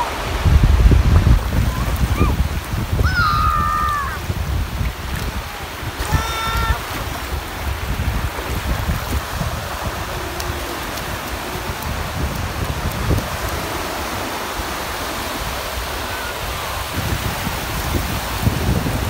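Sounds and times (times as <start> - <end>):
shallow surf washing: 0.0 - 19.0
wind buffeting microphone: 0.0 - 19.0.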